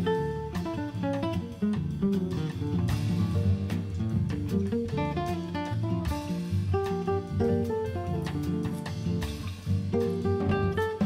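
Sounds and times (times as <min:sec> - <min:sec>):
light percussion: 0:00.0 - 0:11.0
plucked guitar music: 0:00.0 - 0:11.0.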